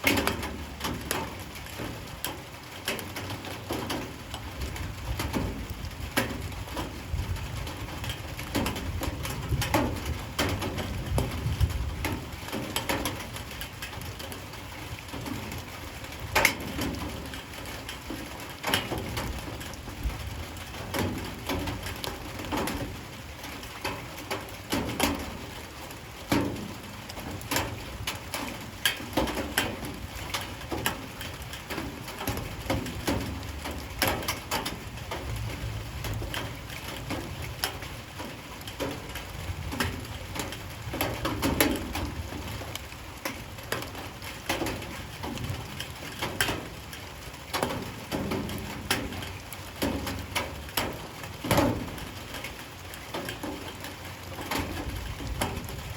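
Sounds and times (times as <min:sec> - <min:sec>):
light rain tapping on hard surfaces: 0:00.0 - 0:55.9.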